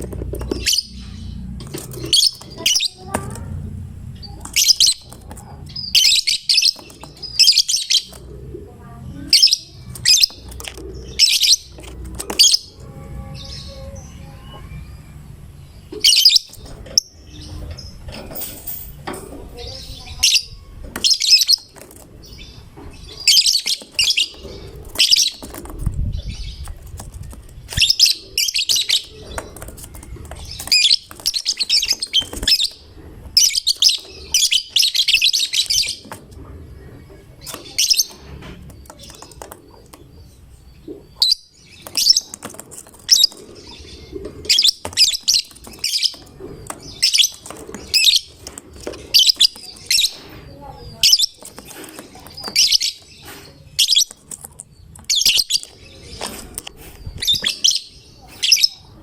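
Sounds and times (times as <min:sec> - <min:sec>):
lovebird chattering song: 0:00.5 - 0:03.4, 0:04.1 - 0:08.4, 0:09.2 - 0:15.0, 0:15.9 - 0:18.0, 0:19.6 - 0:27.0, 0:27.6 - 0:36.2, 0:36.8 - 0:59.0.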